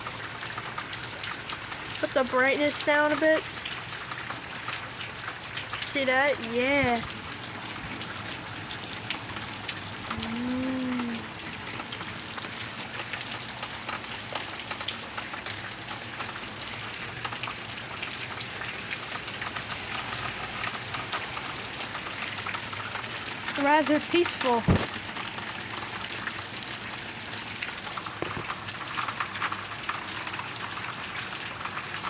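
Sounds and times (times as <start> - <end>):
heavy rain pattering: 0.0 - 32.0.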